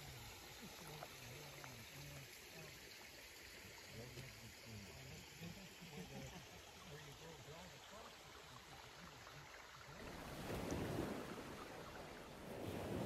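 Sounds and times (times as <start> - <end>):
creek trickling over stones: 0.0 - 13.0.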